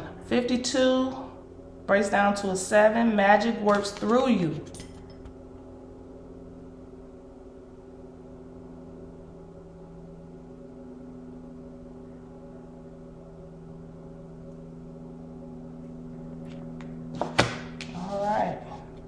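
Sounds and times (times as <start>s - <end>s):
gong-like low drone: 0.0s - 19.0s.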